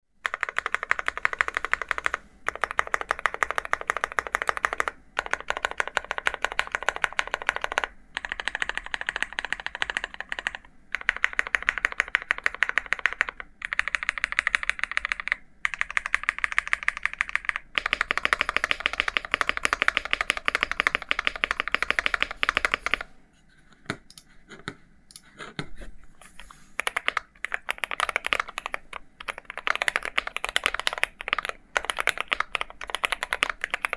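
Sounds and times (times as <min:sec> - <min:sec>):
mechanical keyboard typing: 0:00.2 - 0:23.1, 0:26.4 - 0:33.9.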